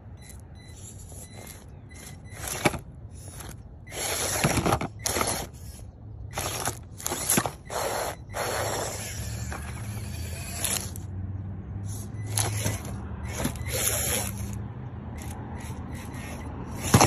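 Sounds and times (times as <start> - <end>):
small electric motor whirring: 0.2 - 11.1, 11.8 - 17.0
tyres scraping over plants and dirt: 0.8 - 11.2, 11.8 - 17.0.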